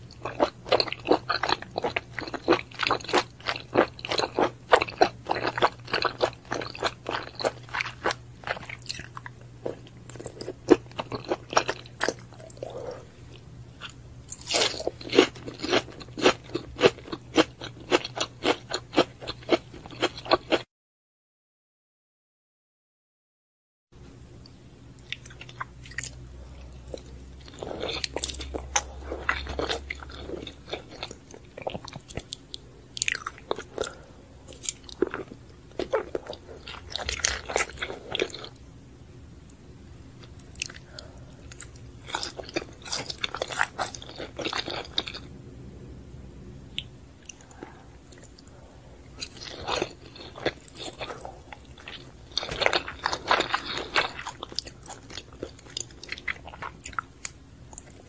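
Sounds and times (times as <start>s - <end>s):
chewing sushi: 0.0s - 20.7s, 24.9s - 38.7s, 40.2s - 45.3s, 46.7s - 58.0s.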